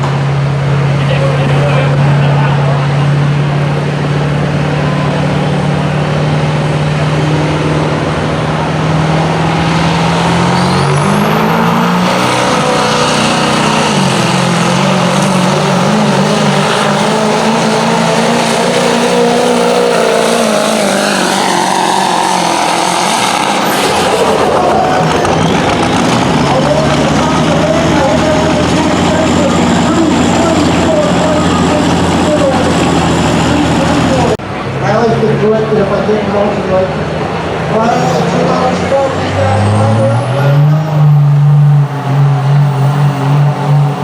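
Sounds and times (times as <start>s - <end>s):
diesel truck engine revving: 0.0s - 44.0s.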